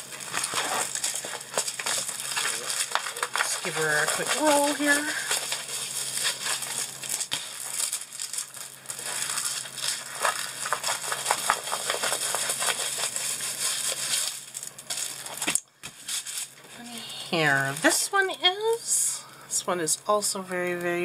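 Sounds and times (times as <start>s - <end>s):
plastic sleeve crinkling: 0.0s - 18.9s
faint steady hum: 0.0s - 21.0s.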